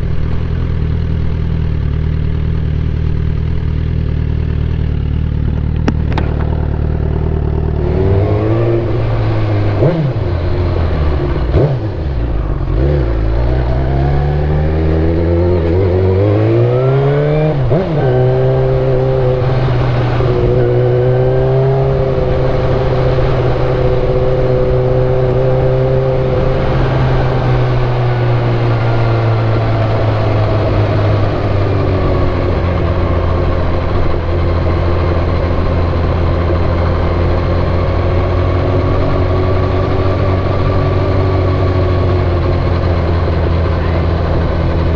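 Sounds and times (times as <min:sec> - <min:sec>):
sport bike engine revving: 0:00.4 - 0:44.9.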